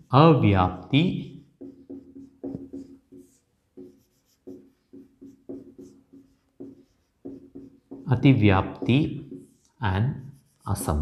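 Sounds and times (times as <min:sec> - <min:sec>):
marker squeaking on whiteboard: 0:00.8 - 0:10.9.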